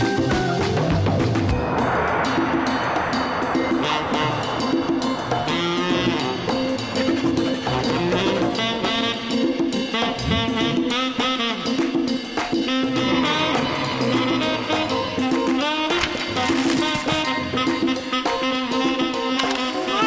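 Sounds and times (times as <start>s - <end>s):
upbeat jazzy instrumental music: 0.0s - 1.6s, 3.8s - 20.0s
drum kit: 0.0s - 20.0s
horns: 3.5s - 20.0s.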